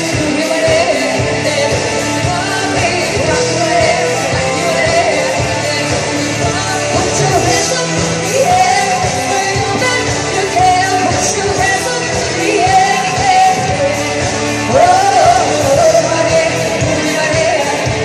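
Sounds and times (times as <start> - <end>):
rock song with singer and band: 0.0 - 18.0.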